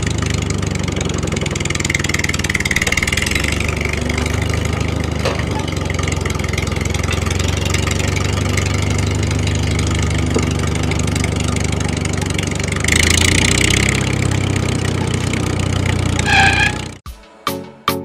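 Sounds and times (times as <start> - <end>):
engine chugging: 0.0 - 17.0.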